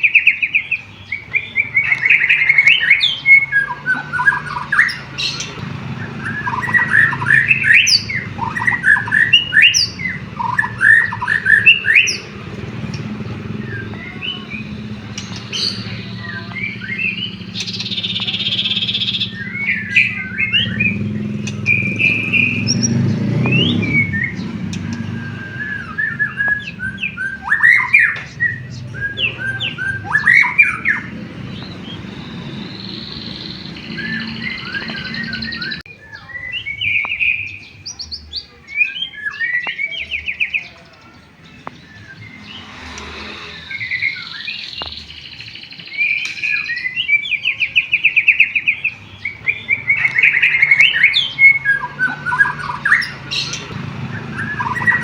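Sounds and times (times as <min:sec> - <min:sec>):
bird singing whistles and chirps: 0:00.0 - 0:55.0.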